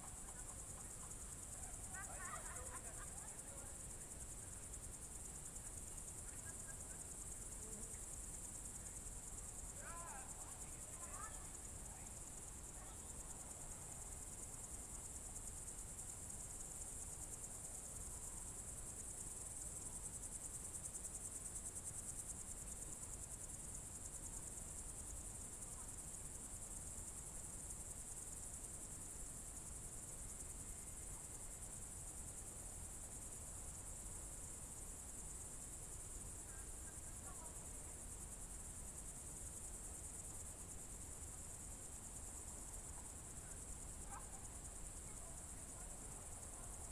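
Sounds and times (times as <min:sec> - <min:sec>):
crickets trilling: 0:00.0 - 0:46.9.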